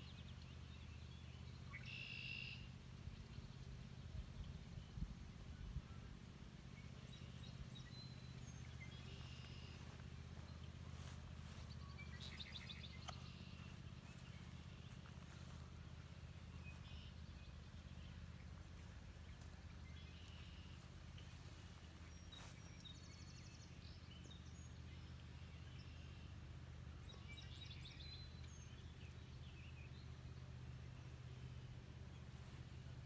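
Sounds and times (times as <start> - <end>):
low steady hum: 0.0 - 33.0
songbirds chirping: 0.0 - 33.0.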